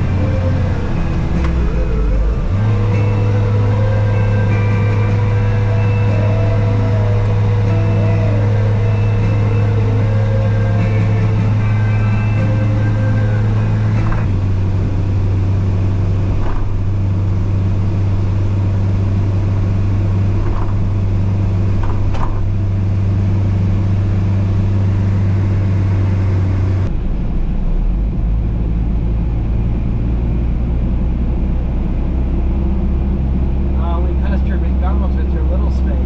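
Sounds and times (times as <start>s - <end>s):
truck engine droning: 0.0s - 36.0s.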